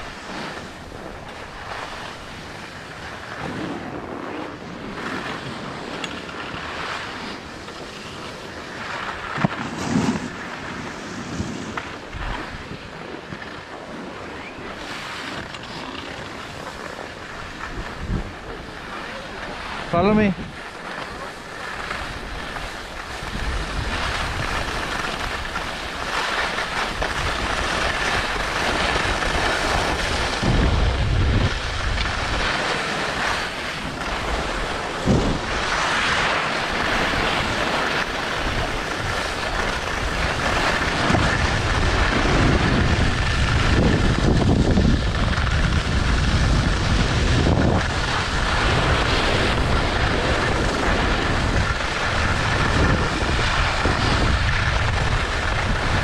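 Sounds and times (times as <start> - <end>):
skis scraping over snow: 0.0 - 56.0
wind rushing over microphone: 0.0 - 56.0.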